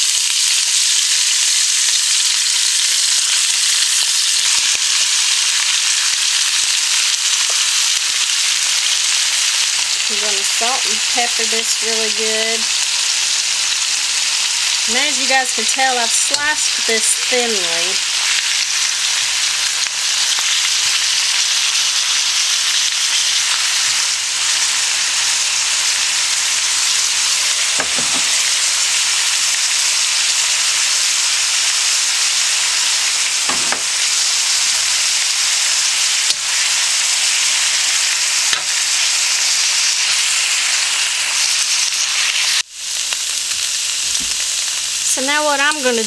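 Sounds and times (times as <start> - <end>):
pork sizzling in a wok: 0.0 - 46.0.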